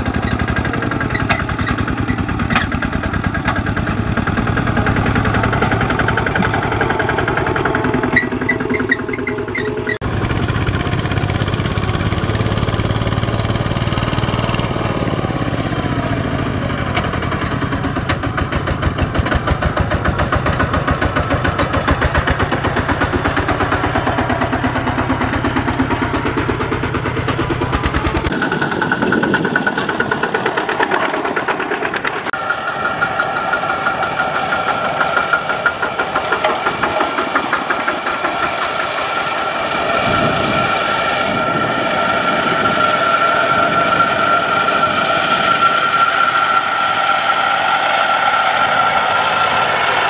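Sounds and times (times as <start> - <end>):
diesel tractor engines running: 0.0 - 50.0
steady engine whine: 0.0 - 50.0.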